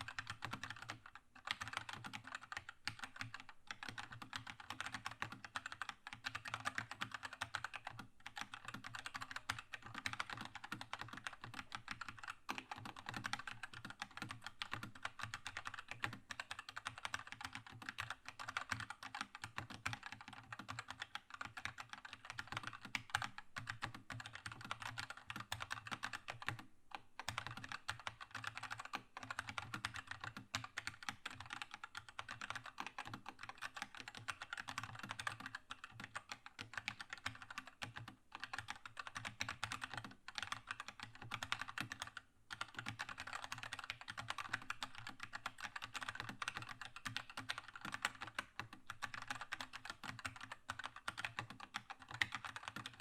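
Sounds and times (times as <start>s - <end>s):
fast typing on mechanical keyboard: 0.0s - 53.0s.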